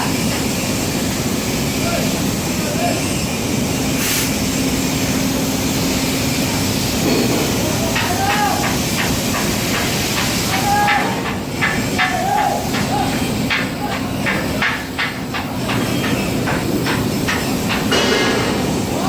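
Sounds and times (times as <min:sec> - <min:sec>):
loud industrial hiss: 0:00.0 - 0:19.0.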